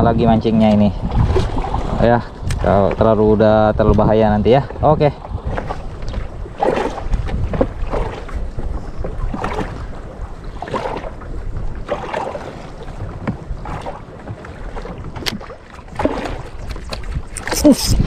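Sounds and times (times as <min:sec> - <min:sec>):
water sloshing against hull: 0:00.0 - 0:18.0
wind buffeting microphone: 0:00.0 - 0:18.0.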